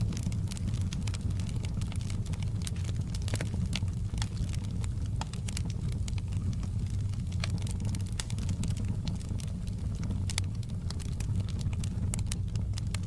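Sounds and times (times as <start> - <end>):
campfire crackling and snapping: 0.0 - 13.0
low fire rumble: 0.0 - 13.0.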